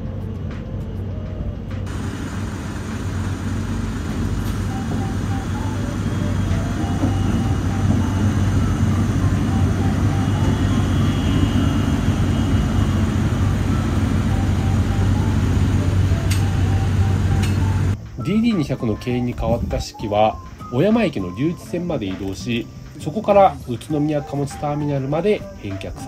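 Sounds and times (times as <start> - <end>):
diesel locomotive engine humming: 0.0 - 26.0.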